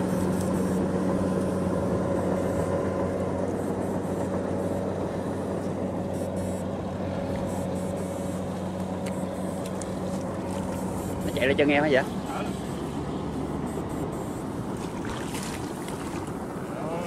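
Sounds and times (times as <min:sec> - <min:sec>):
machine drone: 0:00.0 - 0:17.0.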